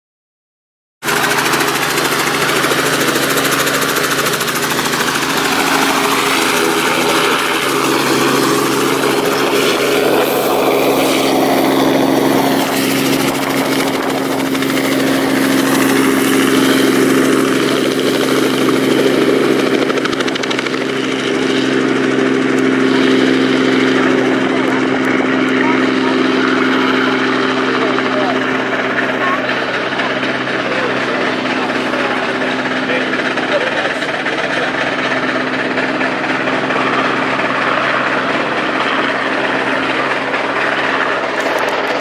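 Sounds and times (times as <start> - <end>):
helicopter rotor and engine drone: 1.0 - 42.0.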